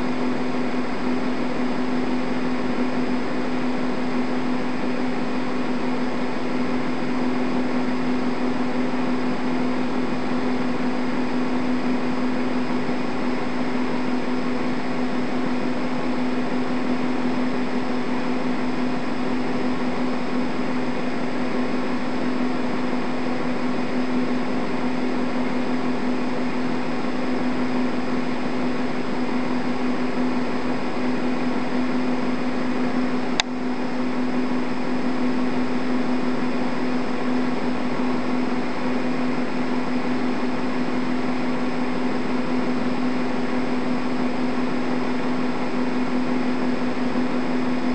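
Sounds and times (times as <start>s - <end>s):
steady mechanical hum: 0.0s - 47.9s.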